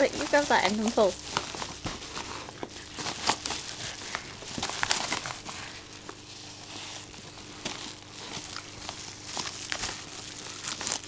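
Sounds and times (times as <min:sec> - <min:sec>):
wrapping paper crinkling: 0:00.0 - 0:11.0.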